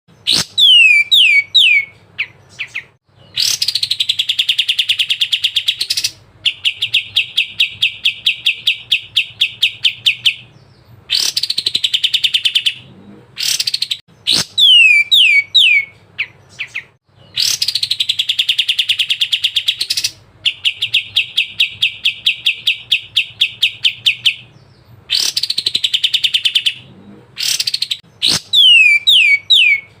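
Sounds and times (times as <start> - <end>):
songbird whistles and trills: 0.2 - 12.8, 13.4 - 26.8, 27.4 - 30.0.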